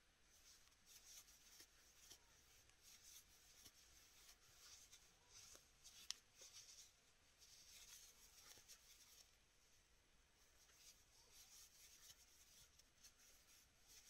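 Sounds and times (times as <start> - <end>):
yarn rustling on crochet hook: 0.3 - 9.4, 10.4 - 14.0.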